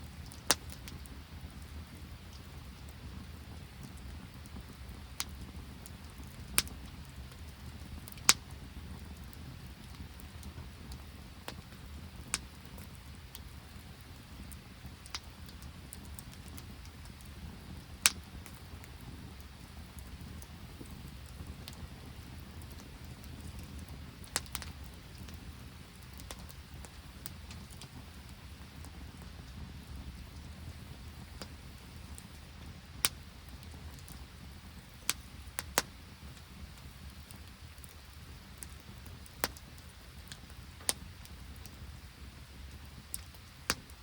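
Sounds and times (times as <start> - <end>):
campfire rumble: 0.0 - 44.0
fire popping: 0.0 - 44.0.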